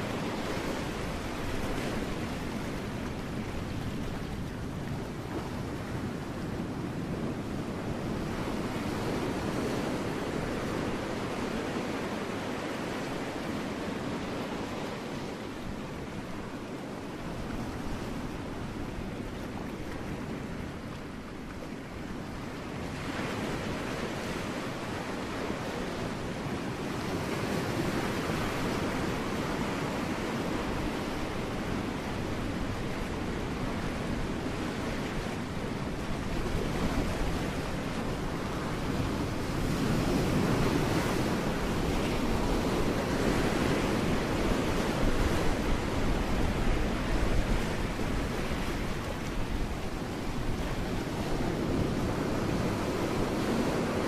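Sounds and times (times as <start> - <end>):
ocean waves breaking on rocks: 0.0 - 54.0.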